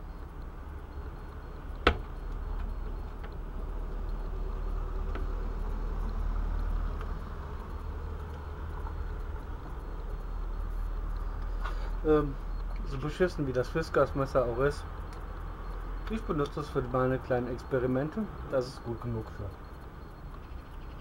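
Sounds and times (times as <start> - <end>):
low rumble and hiss: 0.0 - 21.0.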